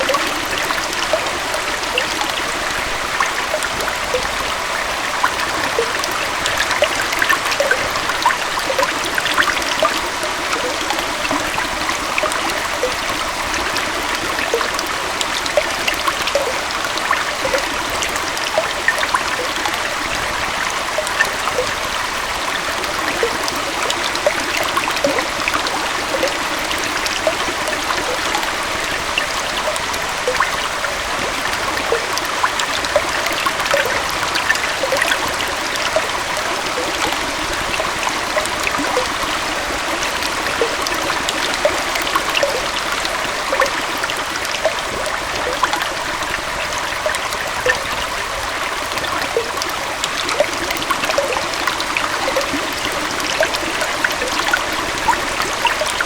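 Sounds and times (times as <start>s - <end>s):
waterfall pouring into stream: 0.0s - 56.0s.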